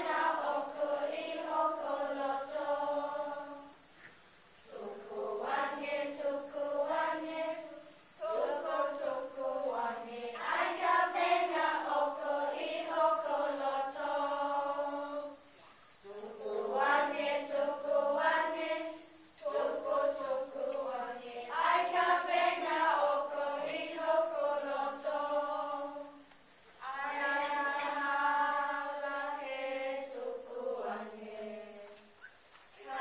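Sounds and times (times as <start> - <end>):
children singing: 0.0 - 3.6, 4.7 - 15.4, 16.1 - 26.2, 26.8 - 31.6
steady high-pitched hiss: 0.0 - 33.0.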